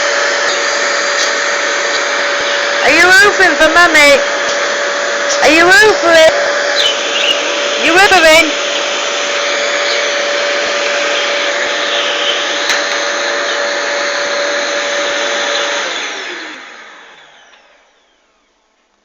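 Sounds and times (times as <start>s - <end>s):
motor spinning down: 0.0s - 18.6s
vacuum cleaner whining: 0.0s - 19.0s.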